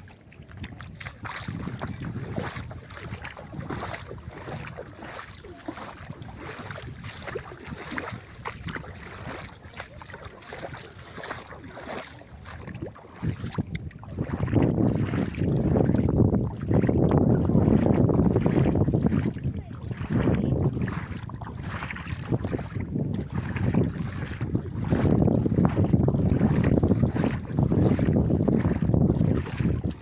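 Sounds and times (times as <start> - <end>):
water splashing and lapping: 0.0 - 30.0
wind buffeting microphone: 0.0 - 30.0.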